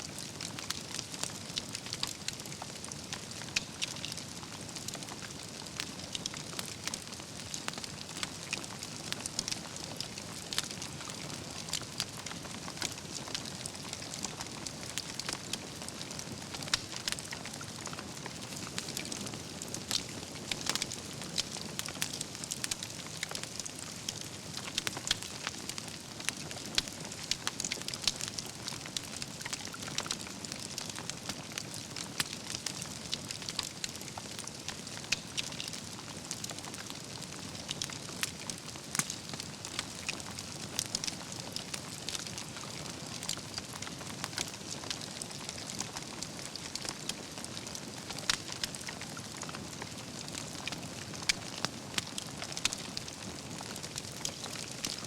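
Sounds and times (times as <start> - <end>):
campfire crackling: 0.1 - 55.0.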